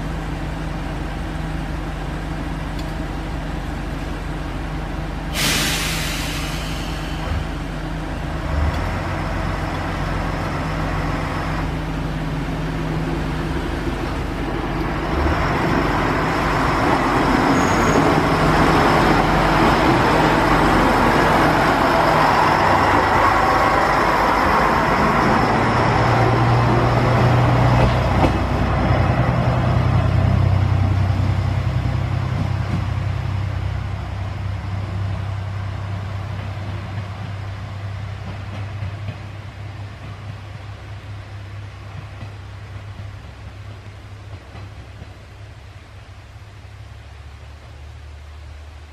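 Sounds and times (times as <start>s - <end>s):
diesel railcar engine passing: 0.0s - 48.9s.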